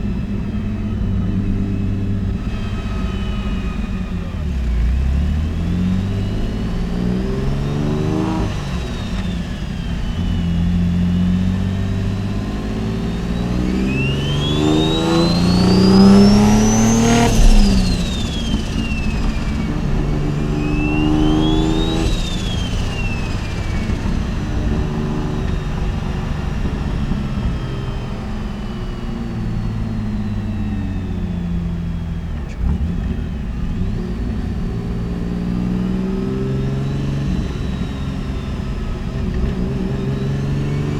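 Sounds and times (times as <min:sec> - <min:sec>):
high turbo whistle: 0:00.0 - 0:32.8, 0:33.4 - 0:40.9
car engine pulling hard: 0:00.0 - 0:40.9.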